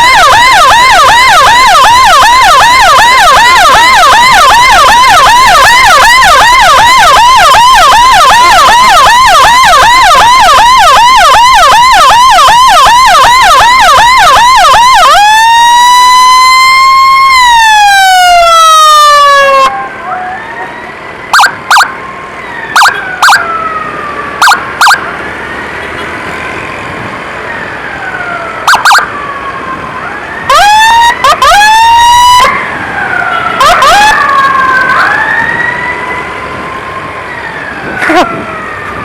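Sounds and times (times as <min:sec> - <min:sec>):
close emergency siren: 0:00.0 - 0:25.8, 0:27.0 - 0:39.0
distant siren wailing: 0:00.0 - 0:39.0.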